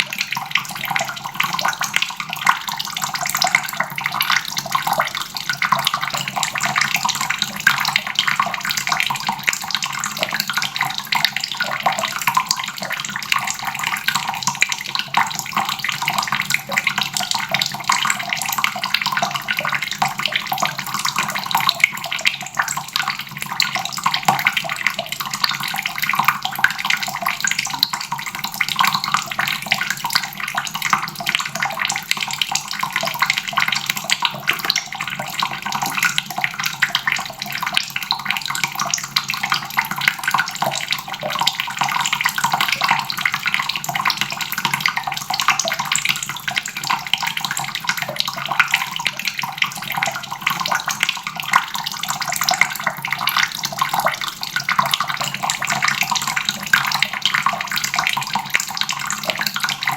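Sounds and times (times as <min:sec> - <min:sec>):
water tap running into basin: 0:00.0 - 0:59.9.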